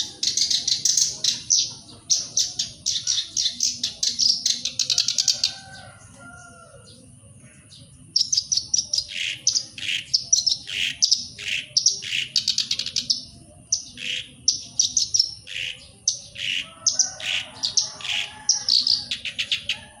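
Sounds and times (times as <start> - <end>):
warbler singing: 0.0 - 20.0.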